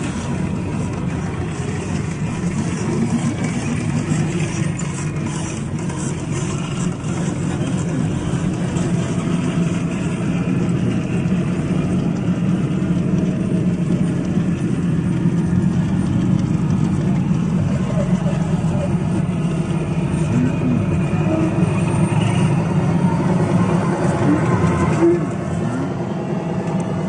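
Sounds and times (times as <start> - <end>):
vehicle engine running steadily: 0.0 - 27.0.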